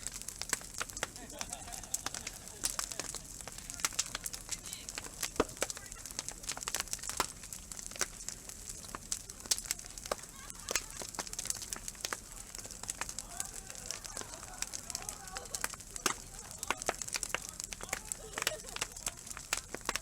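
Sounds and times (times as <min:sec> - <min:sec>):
bonfire crackling: 0:00.0 - 0:20.0.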